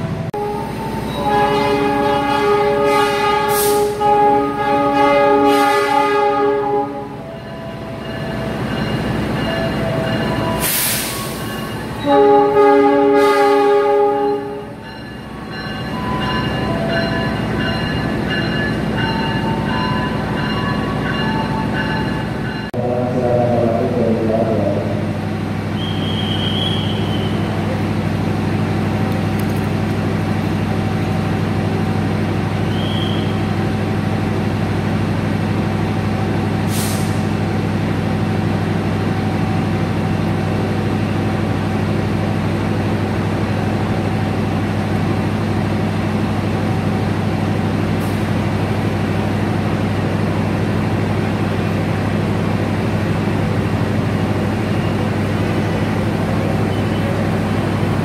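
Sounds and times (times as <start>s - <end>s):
locomotive engine humming: 0.0s - 58.0s.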